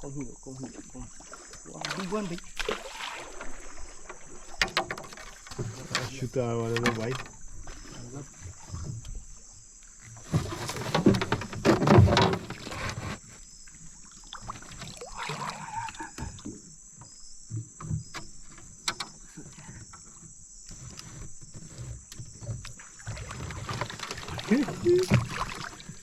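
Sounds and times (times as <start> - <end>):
water splashing around a boat: 0.0 - 26.0.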